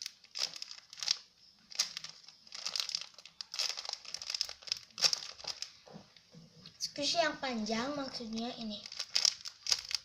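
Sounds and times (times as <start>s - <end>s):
packaging crinkling: 0.0s - 6.3s, 8.2s - 10.0s.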